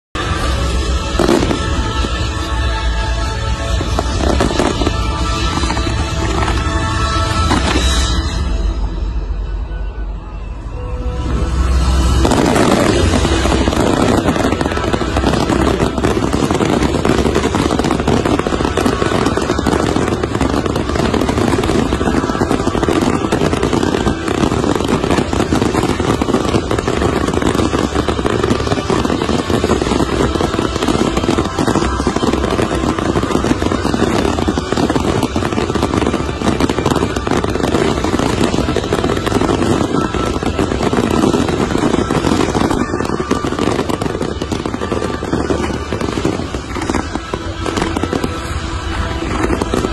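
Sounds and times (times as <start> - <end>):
fireworks crackling and popping: 0.2 - 8.8, 11.2 - 49.9.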